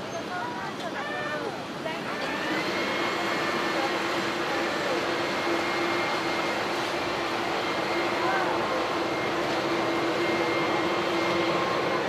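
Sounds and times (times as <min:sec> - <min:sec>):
jet engines running: 0:00.1 - 0:12.0.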